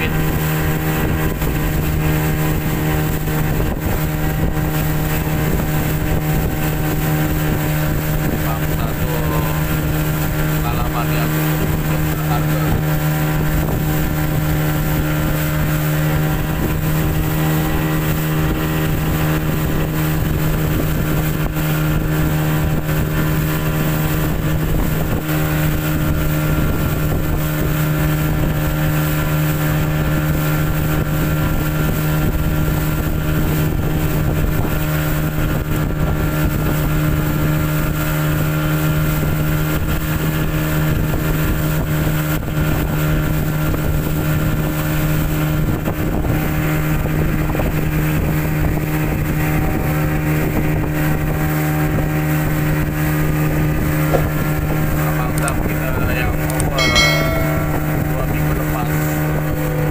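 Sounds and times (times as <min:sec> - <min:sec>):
boat engine running steadily: 0:00.0 - 0:59.9
wind on microphone: 0:00.0 - 0:59.9.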